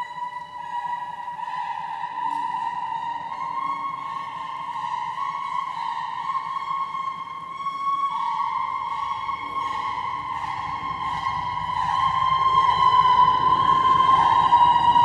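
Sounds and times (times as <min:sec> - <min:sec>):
electronic drone high tone: 0:00.0 - 0:15.0.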